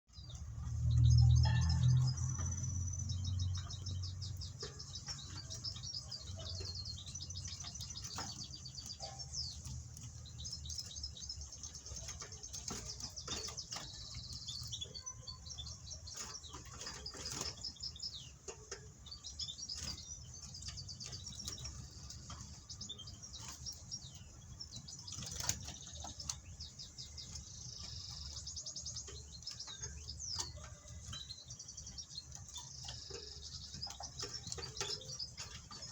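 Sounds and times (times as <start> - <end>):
young birds twittering: 0.1 - 35.9.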